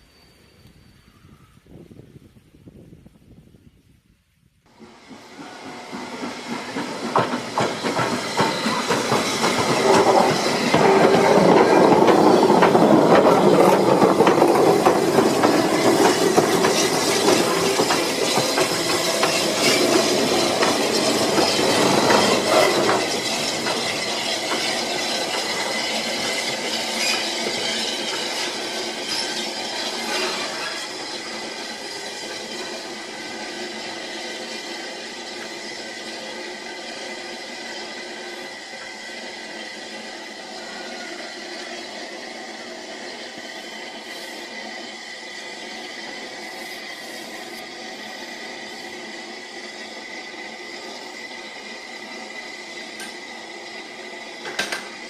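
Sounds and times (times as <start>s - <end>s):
train wheels clicking on rails: 4.7s - 55.0s.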